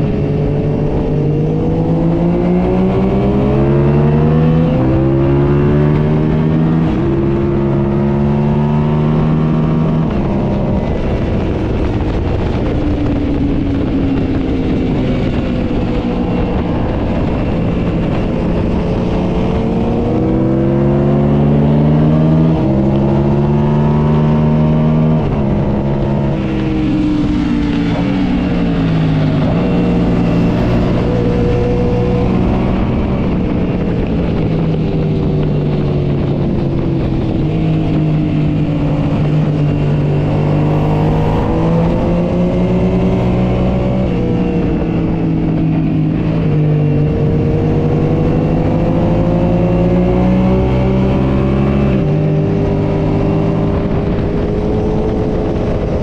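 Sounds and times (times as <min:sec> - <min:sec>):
motorcycle engine at speed: 0:00.0 - 0:56.0
wind rushing: 0:00.0 - 0:56.0.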